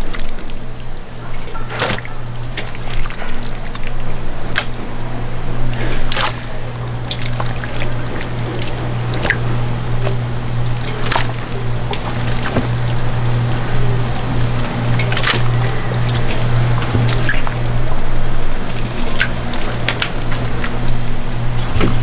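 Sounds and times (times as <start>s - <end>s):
steady low hum: 0.0s - 22.0s
wet squelching of meat mixed by hand: 0.0s - 22.0s.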